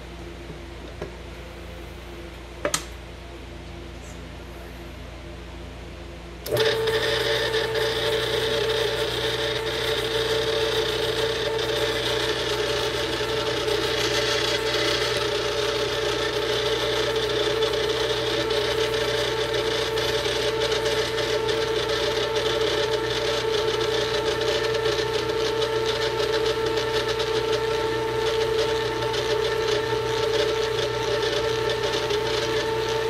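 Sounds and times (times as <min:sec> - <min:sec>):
stand mixer running: 0:06.4 - 0:33.0.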